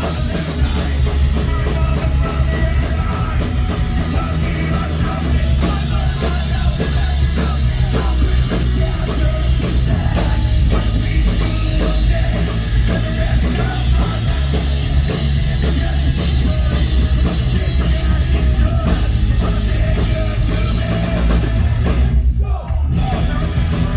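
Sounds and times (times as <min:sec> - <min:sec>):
drum kit: 0:00.0 - 0:23.9
guitars: 0:00.0 - 0:23.9
heavy bass: 0:00.0 - 0:23.9
punk rock band playing live: 0:00.0 - 0:23.9.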